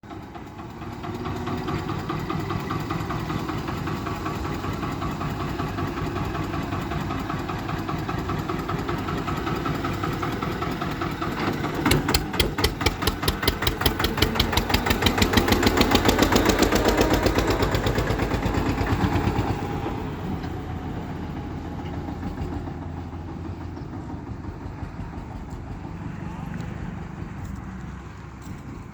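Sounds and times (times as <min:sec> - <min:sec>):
tractor diesel engine: 0:00.0 - 0:28.9
tractor exhaust beats: 0:00.1 - 0:28.9.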